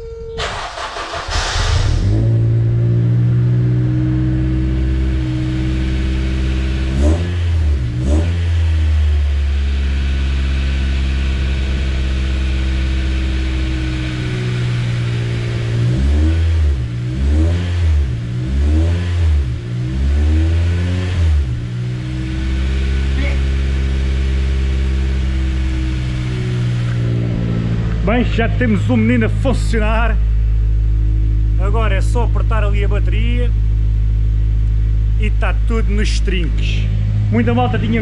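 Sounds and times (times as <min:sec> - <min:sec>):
car engine revving: 0:00.4 - 0:38.0.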